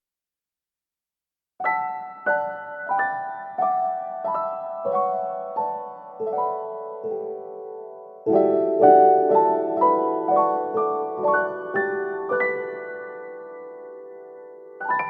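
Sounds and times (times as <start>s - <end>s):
soft piano music: 1.6s - 15.0s.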